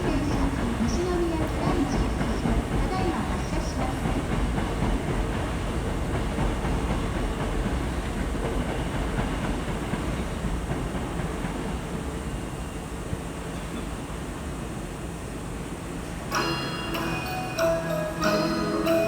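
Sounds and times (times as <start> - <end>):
electric train on rails: 0.0 - 19.0.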